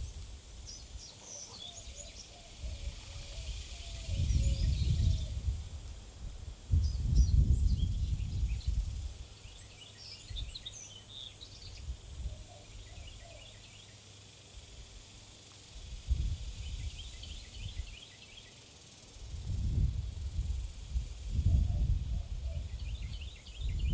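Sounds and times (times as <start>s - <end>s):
small birds chirping: 0.0s - 5.5s, 6.8s - 15.7s, 16.4s - 19.4s, 21.6s - 23.9s.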